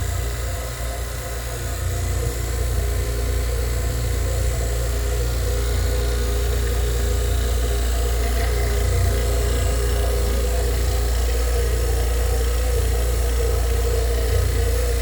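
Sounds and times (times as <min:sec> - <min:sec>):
vacuum pump droning: 0:00.0 - 0:15.0.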